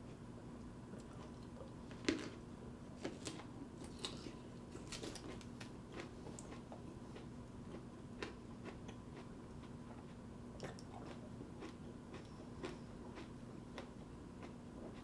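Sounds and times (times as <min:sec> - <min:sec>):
faint steady hum: 0:00.0 - 0:15.0
person chewing with crunches: 0:01.0 - 0:15.0.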